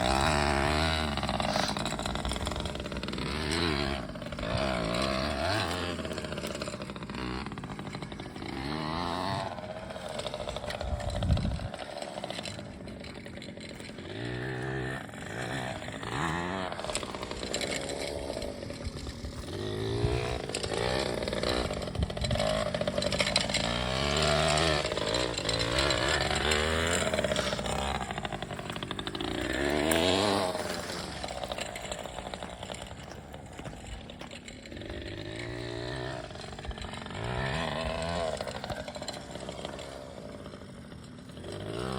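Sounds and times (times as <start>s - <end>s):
pit bike engine revving: 0.0s - 41.9s.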